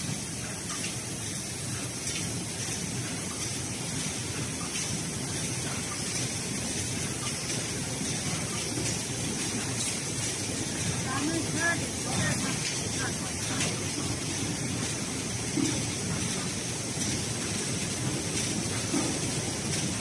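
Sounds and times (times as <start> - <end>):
factory machines and conveyors running: 0.0 - 20.0.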